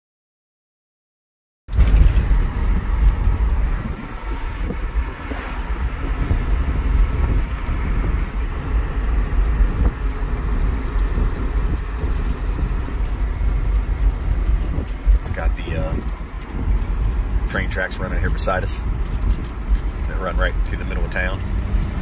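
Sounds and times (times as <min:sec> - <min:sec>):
truck engine and road noise: 0:01.7 - 0:22.0.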